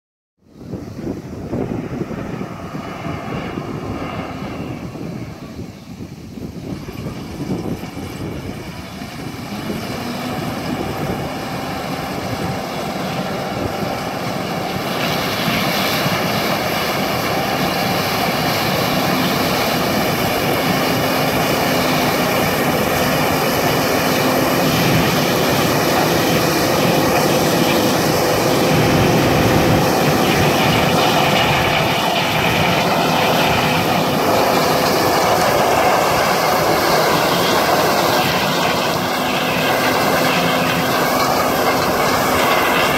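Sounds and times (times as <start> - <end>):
harvest machinery engine drone: 0.4 - 42.9
machinery whining tones: 0.7 - 42.9.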